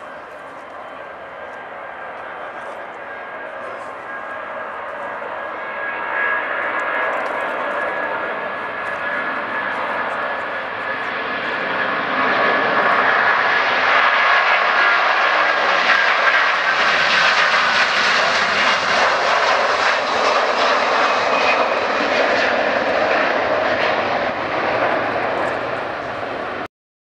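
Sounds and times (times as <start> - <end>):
jet engine roar: 0.0 - 26.7
jet engine whine: 0.0 - 26.7.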